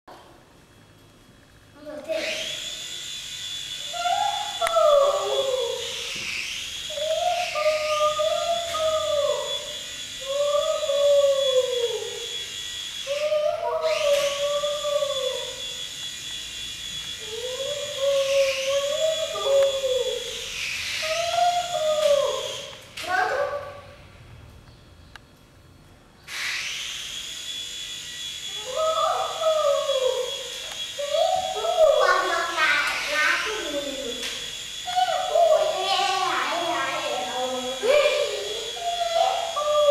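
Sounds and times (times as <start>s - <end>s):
toy helicopter motor whining: 1.8s - 24.0s, 26.3s - 39.9s.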